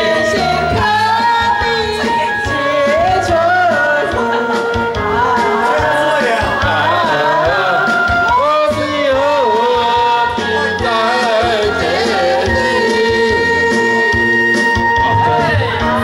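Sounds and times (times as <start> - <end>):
instrumental accompaniment with beat: 0.0 - 16.0.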